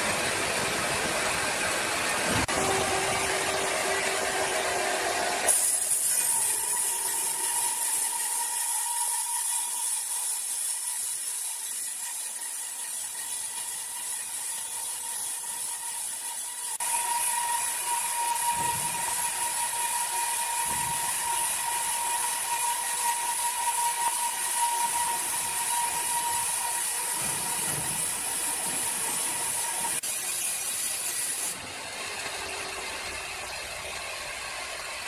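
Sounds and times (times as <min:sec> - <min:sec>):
saw blade whine: 0:00.0 - 0:35.0.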